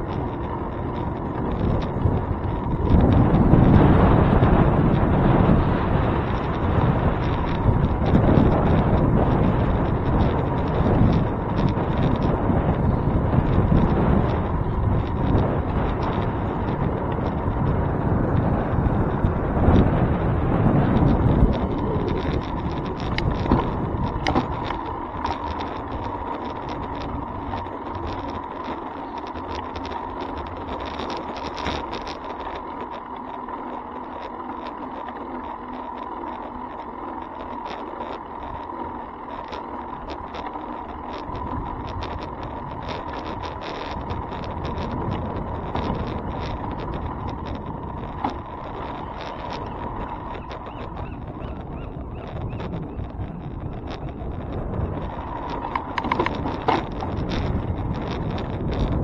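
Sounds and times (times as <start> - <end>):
bicycle tyres rumbling on pavement: 0.0 - 59.0
small rattles and clicks: 0.0 - 59.0
steady thin whine: 0.0 - 59.0.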